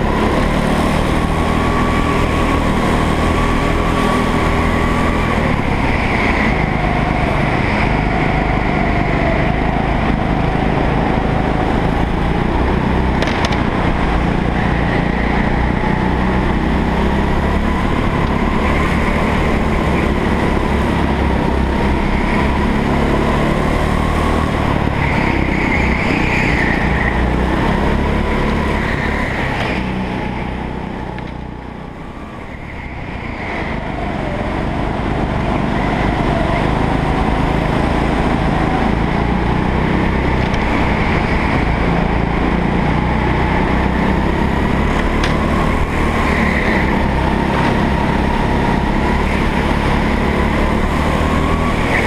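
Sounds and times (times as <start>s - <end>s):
go-kart engine at high revs: 0.0s - 52.0s.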